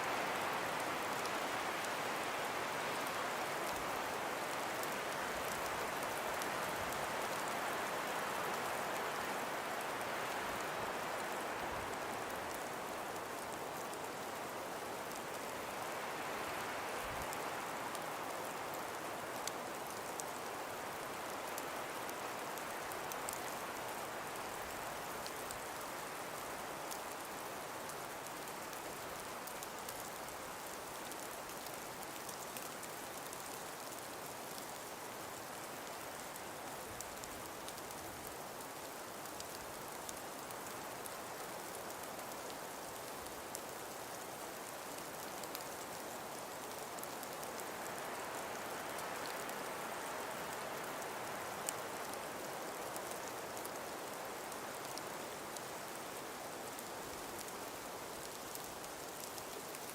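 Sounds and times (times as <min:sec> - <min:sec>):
breeze through forest: 0:00.0 - 0:59.9
faint scattered ticks: 0:00.0 - 0:59.9.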